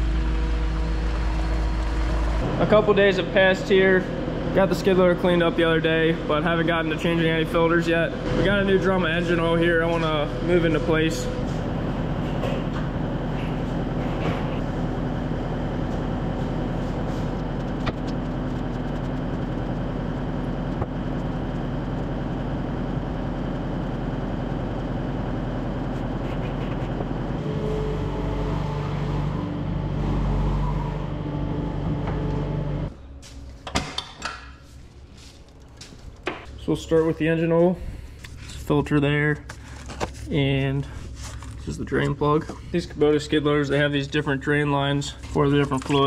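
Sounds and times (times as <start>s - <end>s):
diesel engine running: 0.0s - 33.7s, 34.9s - 46.0s.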